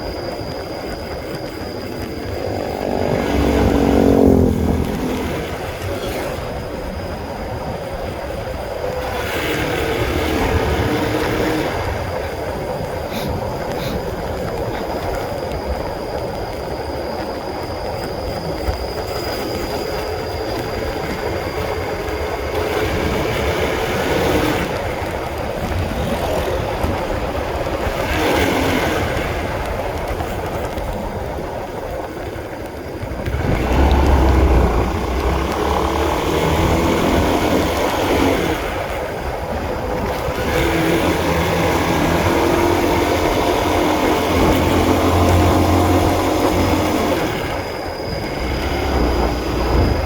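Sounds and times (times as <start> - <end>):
motorcycle engine running: 0.0 - 18.4, 19.1 - 50.0
road noise: 0.0 - 50.0
wind noise: 0.0 - 50.0.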